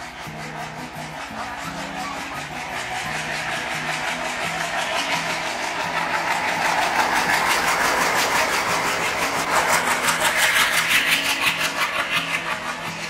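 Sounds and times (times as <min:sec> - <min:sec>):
train rushing past: 0:00.0 - 0:13.0
train wheels clattering: 0:00.0 - 0:13.0.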